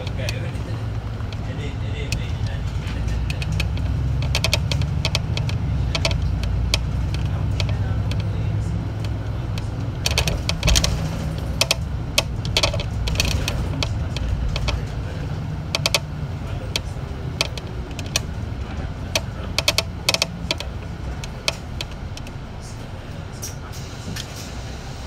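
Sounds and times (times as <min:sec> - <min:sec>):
rattling clicks: 0:00.0 - 0:24.5
bus engine and road rumble: 0:00.0 - 0:25.0.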